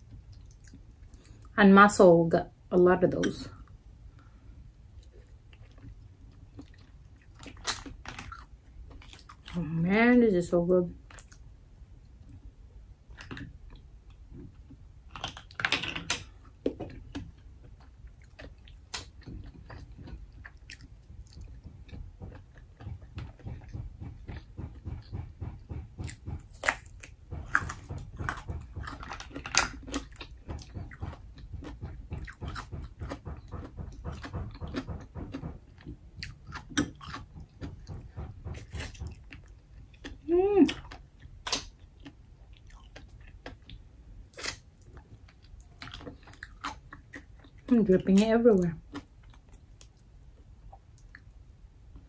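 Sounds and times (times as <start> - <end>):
chewing mussels: 0.0 - 1.6, 3.1 - 9.8, 10.9 - 52.0.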